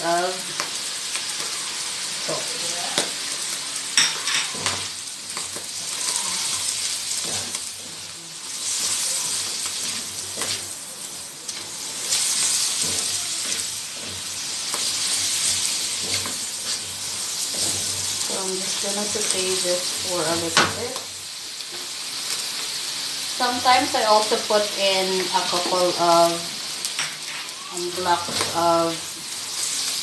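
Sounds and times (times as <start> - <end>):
mushrooms sizzling in a pan: 0.0 - 30.0.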